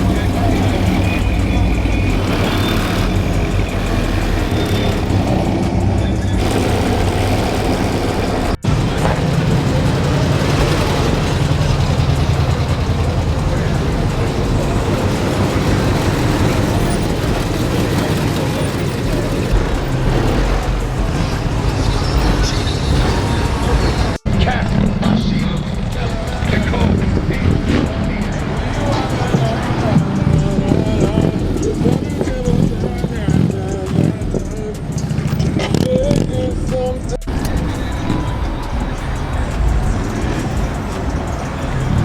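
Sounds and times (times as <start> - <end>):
car engine rumbling: 0.0 - 42.0
music playing: 0.0 - 42.0.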